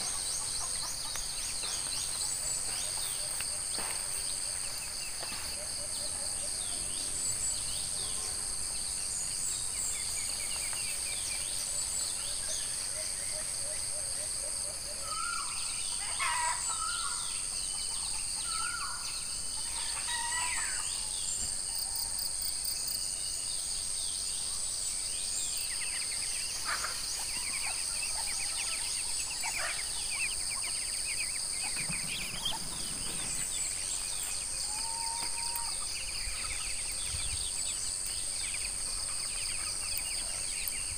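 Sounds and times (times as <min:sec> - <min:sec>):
birds calling: 0:00.0 - 0:21.6, 0:24.5 - 0:40.9.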